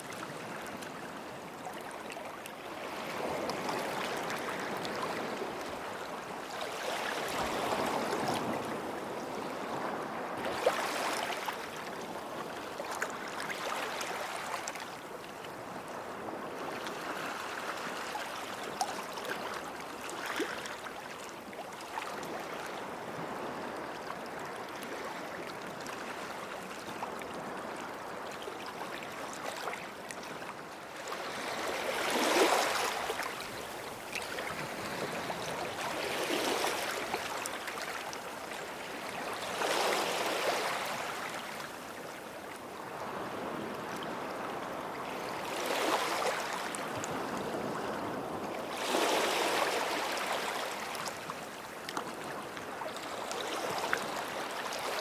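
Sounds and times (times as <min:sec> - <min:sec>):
small waves washing on sand: 0:02.6 - 0:55.0.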